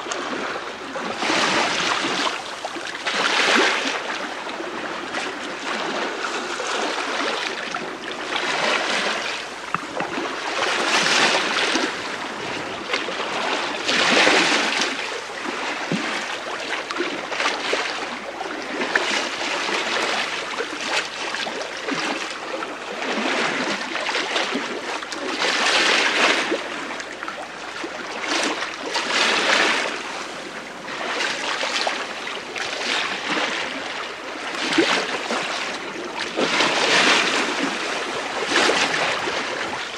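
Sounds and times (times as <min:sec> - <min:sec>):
water rushing along ship hull: 0:00.0 - 0:39.9.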